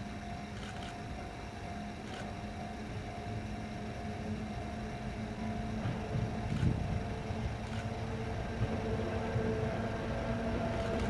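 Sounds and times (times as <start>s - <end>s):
electric locomotive hum and rumble: 0.0s - 11.0s.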